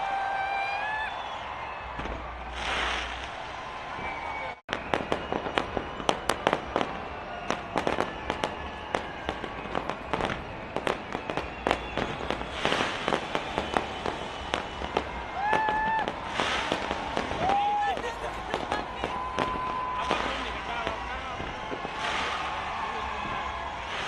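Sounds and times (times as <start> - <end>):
fireworks bangs and pops: 1.1 - 24.0.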